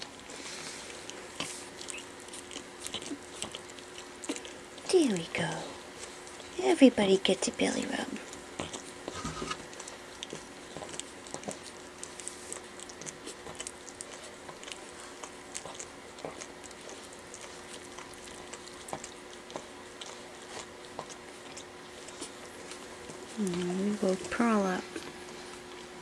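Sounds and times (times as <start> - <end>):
faint steady hum: 0.0 - 26.0
puppies rustling on blanket: 0.0 - 26.0.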